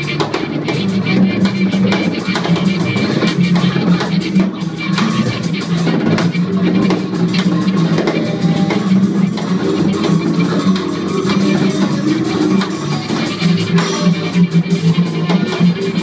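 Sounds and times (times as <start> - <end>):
drum and percussion strokes: 0.0 - 16.0
free improvised quartet music: 0.0 - 16.0.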